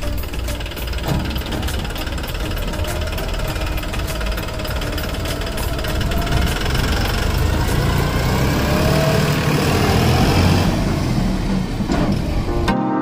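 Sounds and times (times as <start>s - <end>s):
tractor diesel engine running: 0.0s - 12.7s.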